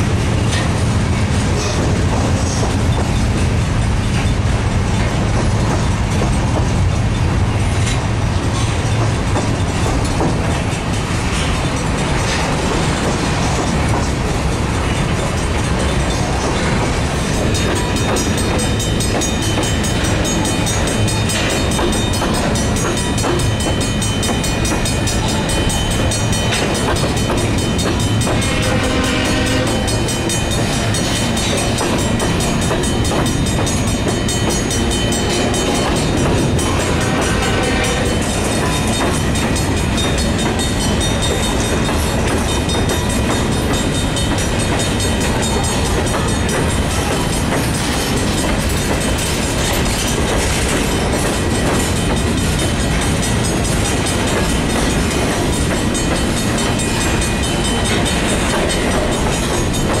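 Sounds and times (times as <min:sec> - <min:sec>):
train wheels rumbling on rail: 0:00.0 - 1:00.0
wheels clickety-clack over joints: 0:00.0 - 1:00.0.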